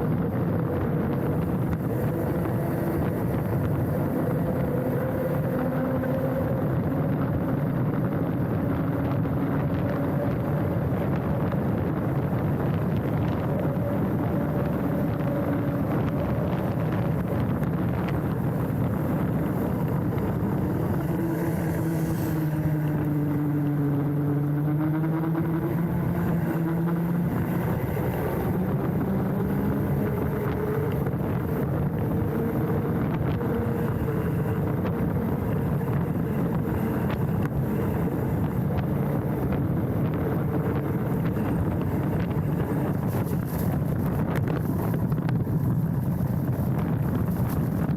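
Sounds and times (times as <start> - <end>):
bike tyre and frame rattle: 0.0 - 47.9
humming tone: 0.0 - 47.9
wind rushing on microphone: 0.0 - 47.9.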